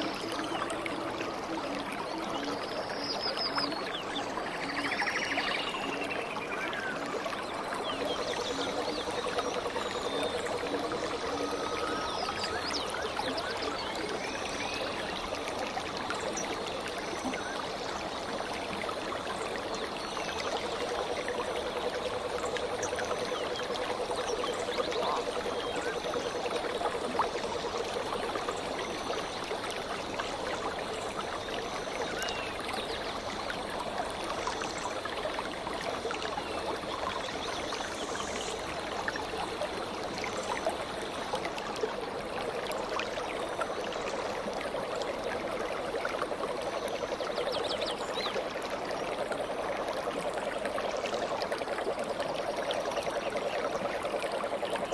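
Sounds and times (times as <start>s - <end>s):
stream water babbling: 0.0s - 54.9s.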